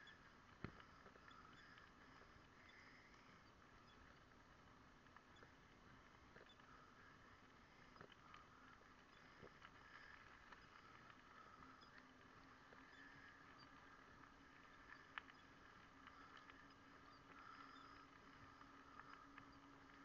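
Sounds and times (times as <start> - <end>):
faint steady hiss: 0.0 - 20.0
soft ticks: 0.0 - 20.0.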